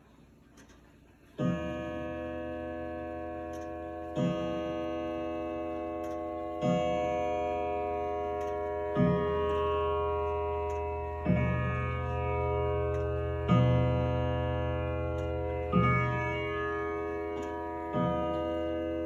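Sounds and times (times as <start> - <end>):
clock ticking: 0.0 - 19.0
clock chime strokes: 1.4 - 19.0.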